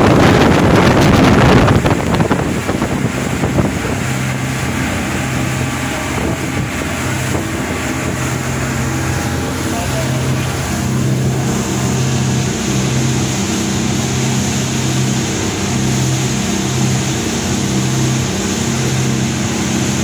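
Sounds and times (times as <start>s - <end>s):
boat engines droning: 0.0s - 20.0s
water rushing: 0.0s - 20.0s.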